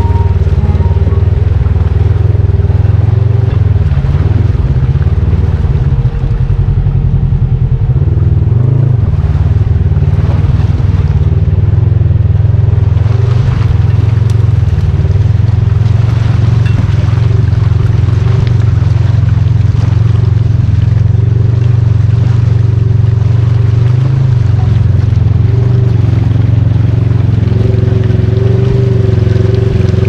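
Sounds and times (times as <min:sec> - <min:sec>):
vehicle engine running loud: 0:00.0 - 0:30.0.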